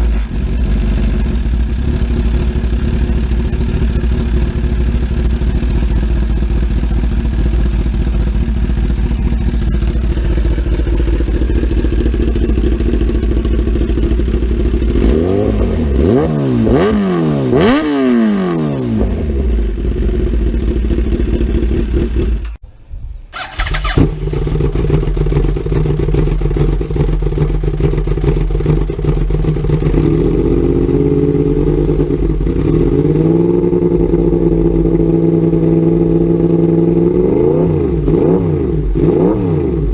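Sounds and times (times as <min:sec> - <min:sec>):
motorcycle engine idling: 0:00.0 - 0:22.6, 0:23.3 - 0:37.3
motorcycle engine revving: 0:00.0 - 0:22.6, 0:23.3 - 0:39.9.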